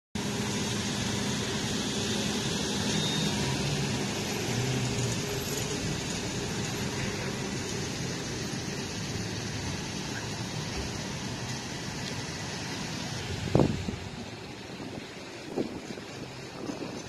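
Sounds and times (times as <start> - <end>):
outdoor noise: 0.2 - 17.0
vehicle engine running: 0.2 - 17.0.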